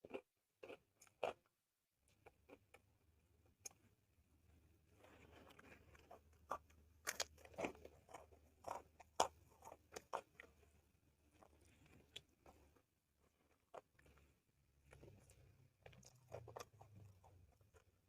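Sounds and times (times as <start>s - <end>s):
crunchy chewing and biting: 0.0s - 1.5s, 5.0s - 18.0s.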